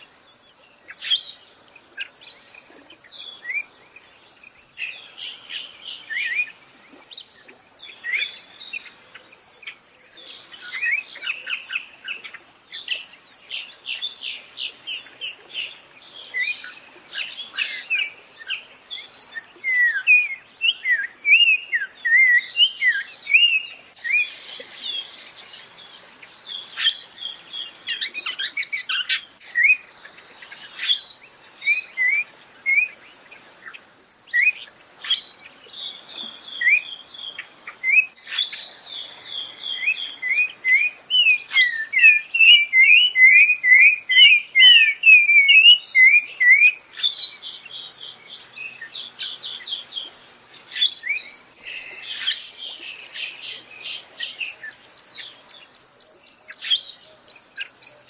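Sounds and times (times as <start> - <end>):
steady high hiss: 0.0 - 58.0
birds chirping and calling: 8.0 - 58.0.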